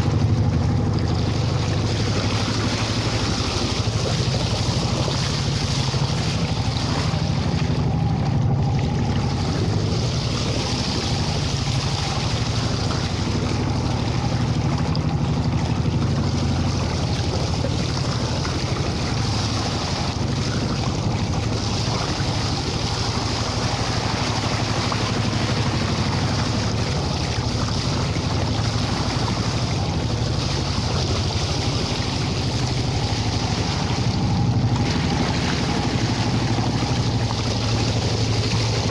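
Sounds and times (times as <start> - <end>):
boat engine running: 0.0 - 38.9
bow wave splashing along hull: 0.0 - 38.9.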